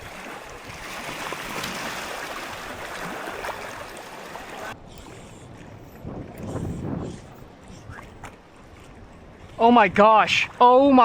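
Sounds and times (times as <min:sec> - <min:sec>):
water sloshing around wading legs: 0:00.0 - 0:06.5, 0:07.4 - 0:11.0.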